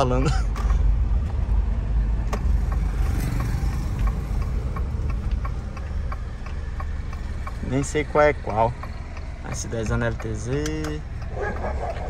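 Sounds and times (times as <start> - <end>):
car engine and cabin rumble: 0.0 - 12.0
light regular ticking: 0.0 - 12.0.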